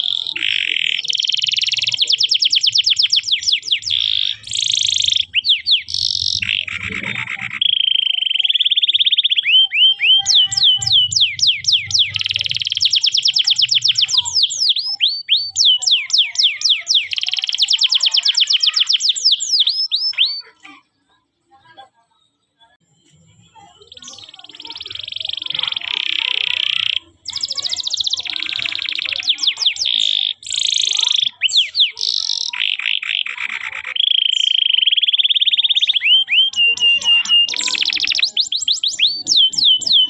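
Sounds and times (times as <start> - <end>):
canary singing: 0.0 - 21.3, 22.3 - 40.0.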